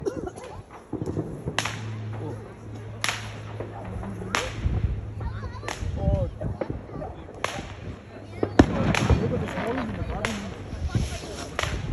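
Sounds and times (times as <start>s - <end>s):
fireworks exploding: 0.0s - 11.9s.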